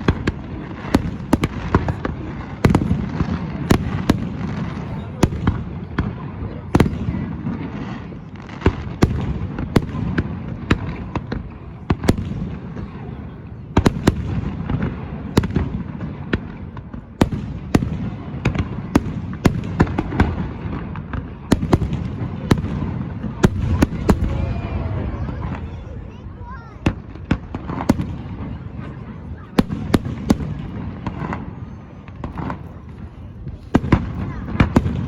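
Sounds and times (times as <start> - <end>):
fireworks cracking and popping: 0.0 - 35.0.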